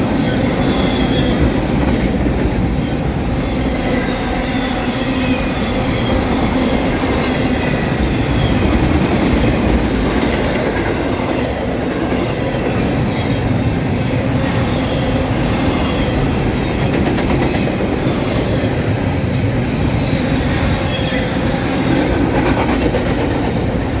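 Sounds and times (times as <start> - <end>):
freight train wheels clattering on rail: 0.0 - 24.0.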